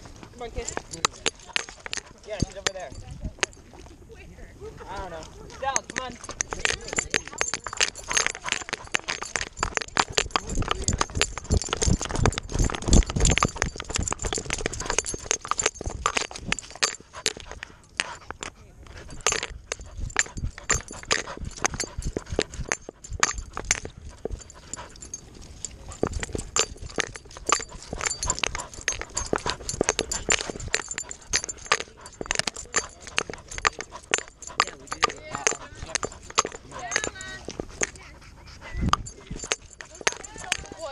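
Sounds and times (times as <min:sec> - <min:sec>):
dog panting: 0:00.0 - 0:03.9, 0:04.9 - 0:40.9
paws pattering on dirt trail: 0:05.1 - 0:40.9.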